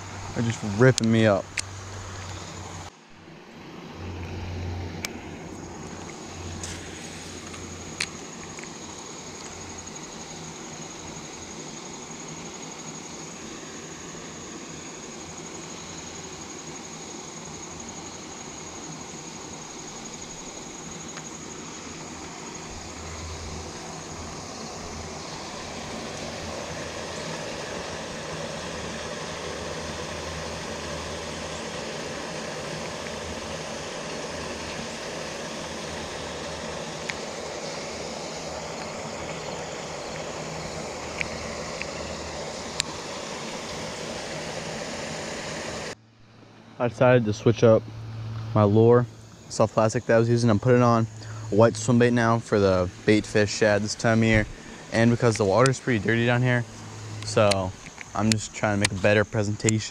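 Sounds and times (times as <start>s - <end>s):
outdoor background rumble: 0.0s - 59.9s.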